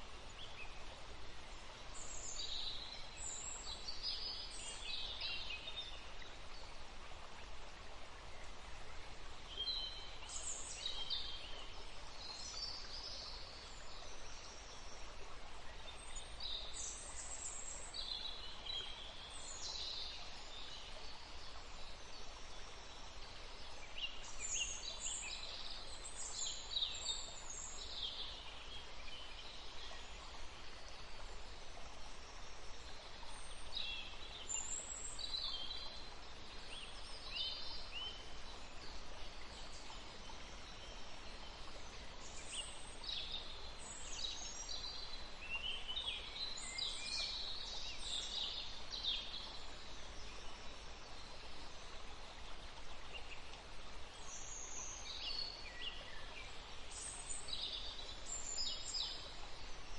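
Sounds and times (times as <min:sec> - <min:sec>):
faint background hiss: 0:00.0 - 0:59.9
songbirds chirping: 0:00.0 - 0:59.9.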